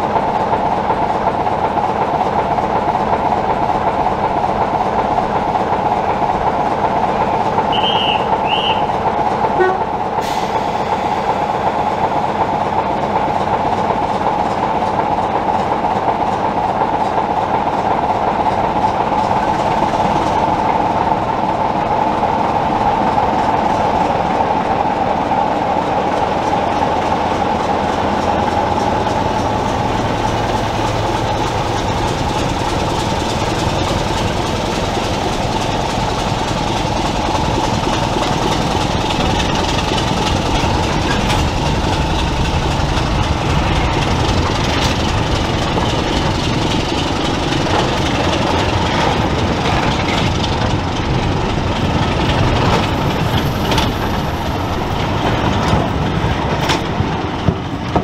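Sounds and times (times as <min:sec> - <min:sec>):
train rolling on rails: 0:00.0 - 0:58.0
deep engine rumble: 0:00.6 - 0:58.0.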